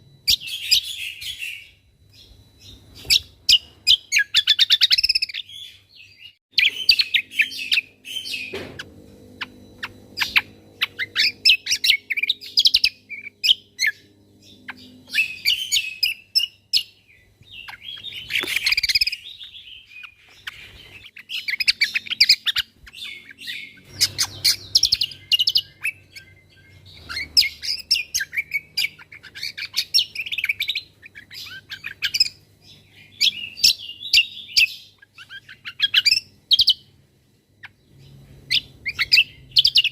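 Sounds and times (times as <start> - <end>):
faint low hum: 0.0 - 39.9
songbird chirping and trilling: 0.0 - 39.9.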